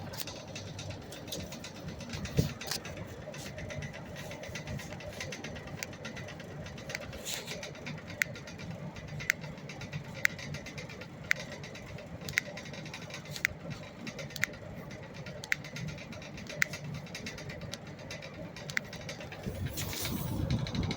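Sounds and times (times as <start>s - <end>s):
foot joint clicking: 0.0s - 20.9s.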